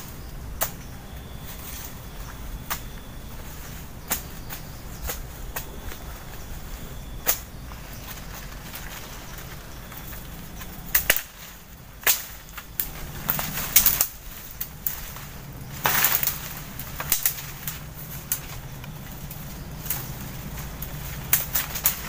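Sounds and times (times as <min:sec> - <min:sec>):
swish of leaves and twigs: 0:00.0 - 0:22.0
machete chopping branches: 0:00.6 - 0:01.0, 0:02.6 - 0:06.1, 0:07.0 - 0:08.9, 0:10.1 - 0:22.0.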